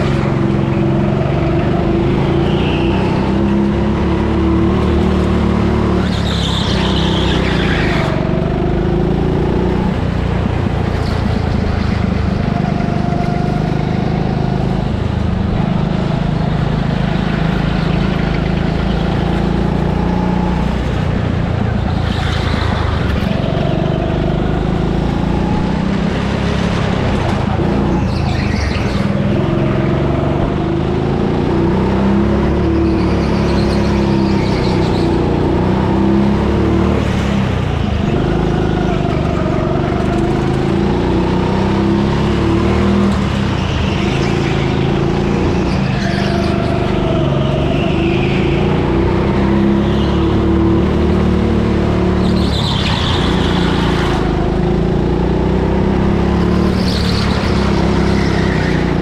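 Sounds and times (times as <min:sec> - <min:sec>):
go-kart motor revving: 0:00.0 - 0:59.0.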